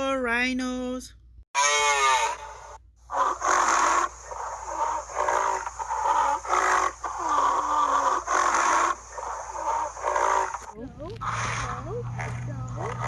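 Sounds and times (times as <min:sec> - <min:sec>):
rhinoceros calling: 0:01.6 - 0:13.0.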